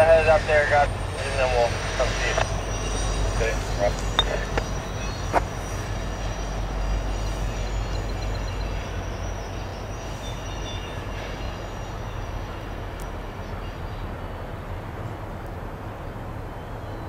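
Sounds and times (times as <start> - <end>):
diesel freight train rumbling: 0.0 - 17.0.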